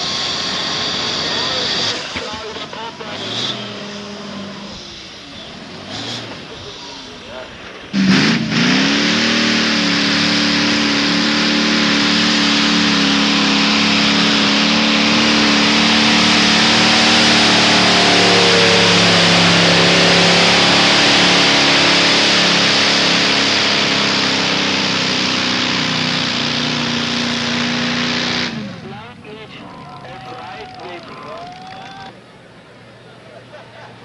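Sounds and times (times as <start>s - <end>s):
pulling tractor engine at full throttle: 0.0s - 34.0s.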